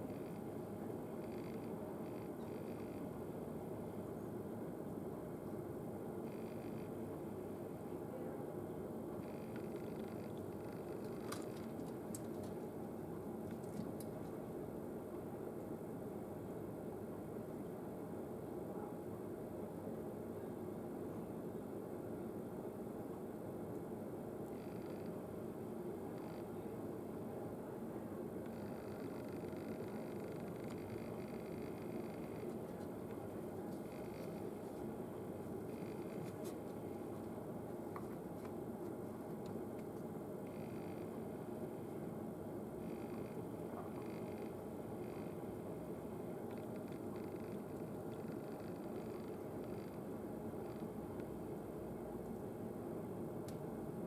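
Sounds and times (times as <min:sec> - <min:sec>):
low background noise: 0:00.0 - 0:54.0.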